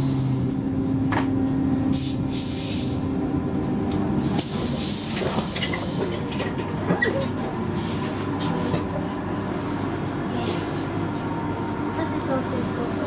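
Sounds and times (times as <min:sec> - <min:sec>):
tram hum: 0:00.0 - 0:13.0.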